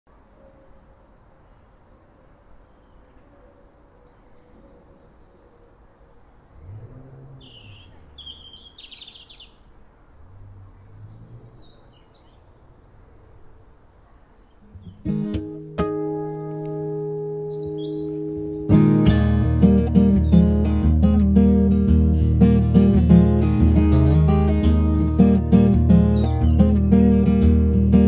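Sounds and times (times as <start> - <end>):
birds chirping: 0.1 - 28.0.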